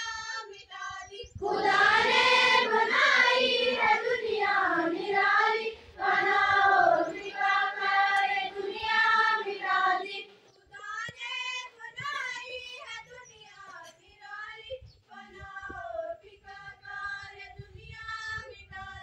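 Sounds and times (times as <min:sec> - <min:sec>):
girls singing in unison: 0:00.0 - 0:10.4, 0:11.1 - 0:19.0.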